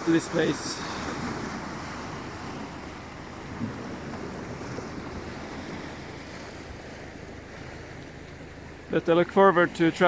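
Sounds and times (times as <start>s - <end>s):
wind buffeting microphone: 0.0s - 9.0s
surf: 0.0s - 10.0s.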